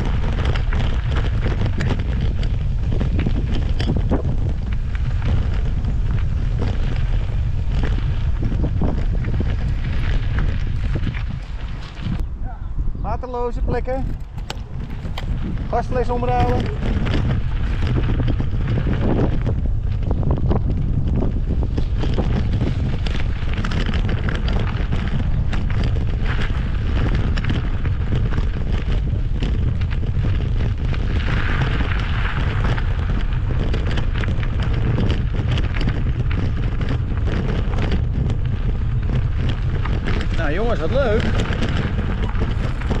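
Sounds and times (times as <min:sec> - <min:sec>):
tyres crackling on gravel: 0:00.0 - 0:43.0
wind buffeting microphone: 0:00.0 - 0:43.0.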